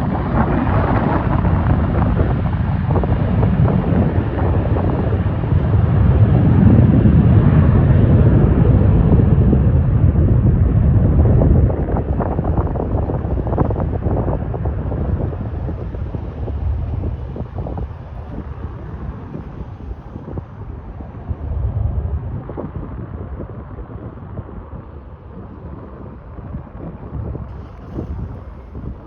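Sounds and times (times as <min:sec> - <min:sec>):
jet aircraft roaring on takeoff: 0:00.0 - 0:29.0
wind buffeting microphone: 0:00.0 - 0:29.0.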